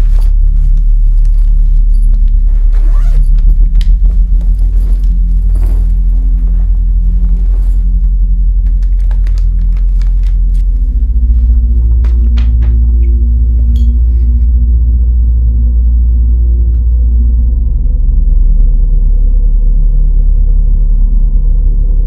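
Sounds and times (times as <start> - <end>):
low rumbling drone: 0.0 - 22.0.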